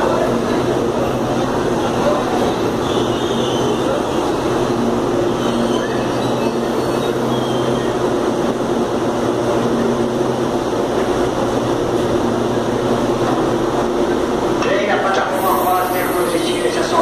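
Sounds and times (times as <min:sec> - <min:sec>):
electric train equipment humming: 0:00.0 - 0:17.0.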